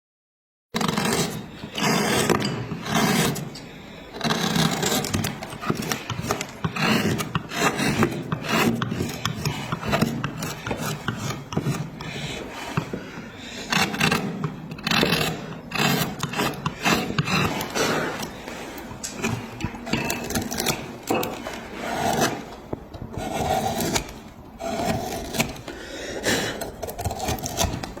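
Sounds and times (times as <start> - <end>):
rasp scraping wood: 0.8 - 28.0.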